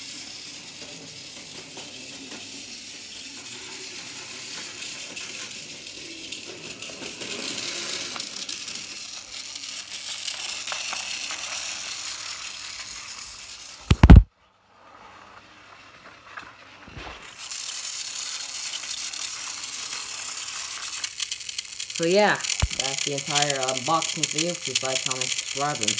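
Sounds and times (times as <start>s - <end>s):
toy train whirring and rattling: 0.0s - 25.9s.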